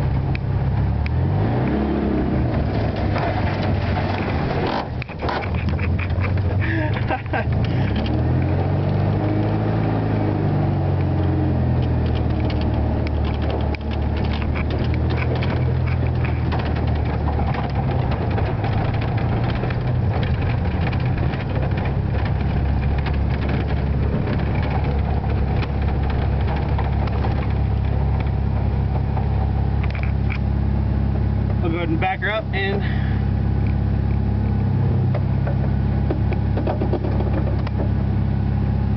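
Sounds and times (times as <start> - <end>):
car engine running at low speed: 0.0 - 38.9.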